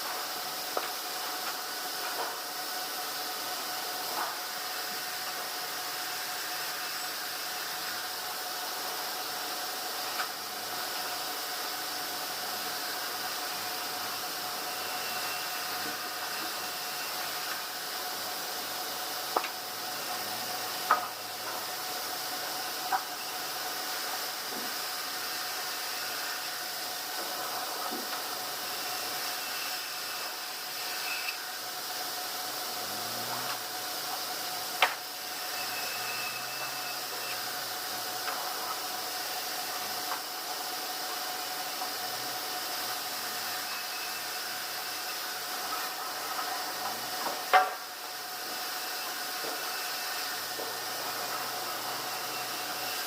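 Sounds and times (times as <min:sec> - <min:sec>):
machinery hum and hiss: 0:00.0 - 0:53.0.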